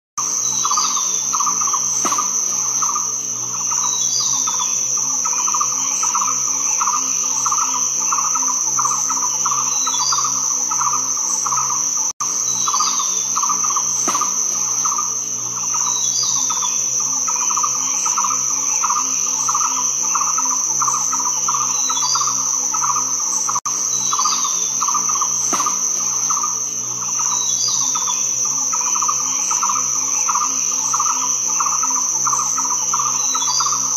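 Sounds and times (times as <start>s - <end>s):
bird chirp: 0.2s - 33.9s
insect chorus whine and trill: 0.2s - 33.9s.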